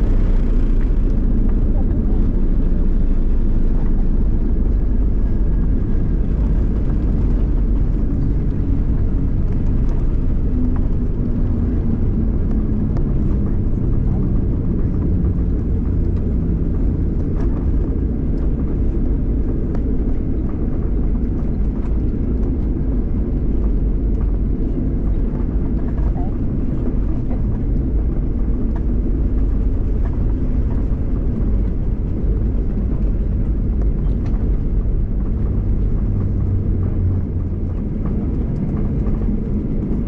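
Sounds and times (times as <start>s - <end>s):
airplane cabin rumble: 0.0s - 40.0s.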